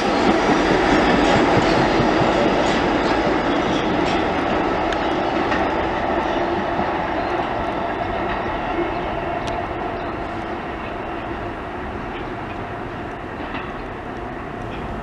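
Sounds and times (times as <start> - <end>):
subway train rumbling on rails: 0.0 - 15.0.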